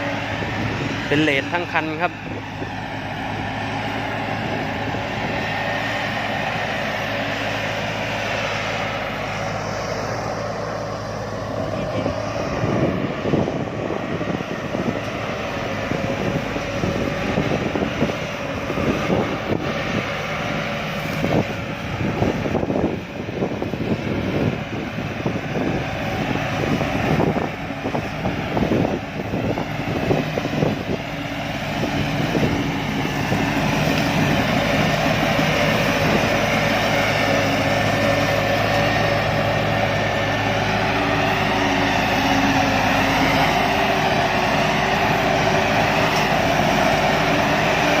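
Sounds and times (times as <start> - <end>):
harvester engine running: 0.0 - 48.0.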